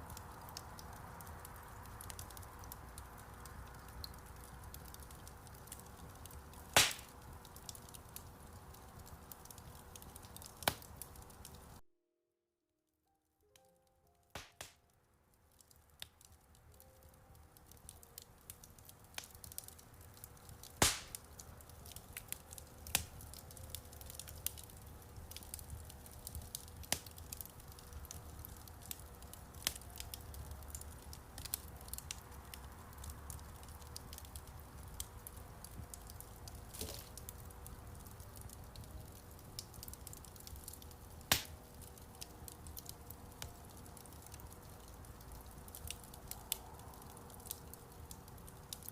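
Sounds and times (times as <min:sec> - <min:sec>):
low rumble of burning fire: 0:00.0 - 0:11.8, 0:14.3 - 0:48.9
wood fire crackling and popping: 0:00.0 - 0:11.8, 0:14.3 - 0:48.9.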